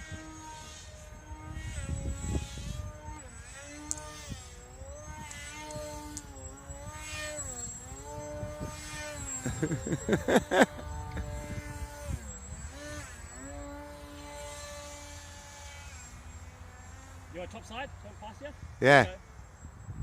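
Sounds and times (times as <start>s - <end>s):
wind rumble on microphone: 0.0s - 15.6s, 18.5s - 20.0s
model plane motor whine: 0.0s - 20.0s.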